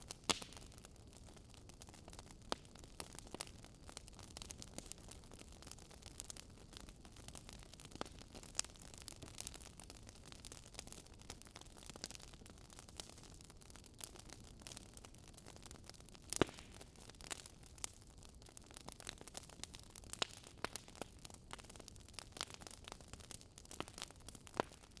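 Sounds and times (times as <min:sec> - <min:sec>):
fire popping and snapping: 0:00.0 - 0:25.0
wood fire crackling: 0:00.0 - 0:25.0.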